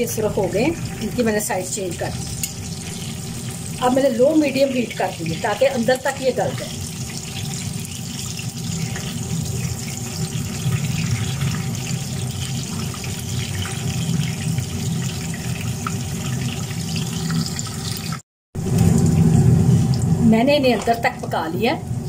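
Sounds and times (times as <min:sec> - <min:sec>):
meat sizzling in frying pan: 0:00.1 - 0:20.2.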